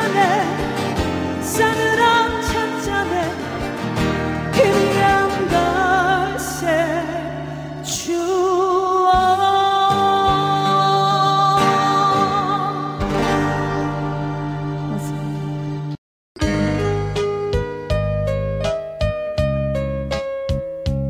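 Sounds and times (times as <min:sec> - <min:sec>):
trot ballad with vibrato melody: 0:00.0 - 0:21.0.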